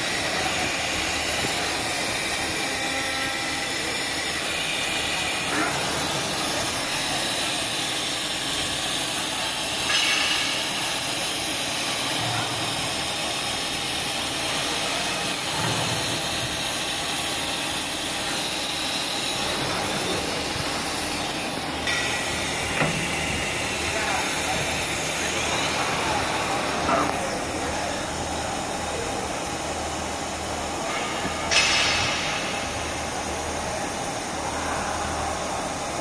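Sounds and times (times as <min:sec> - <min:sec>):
machining center hissing: 0:00.0 - 0:30.8.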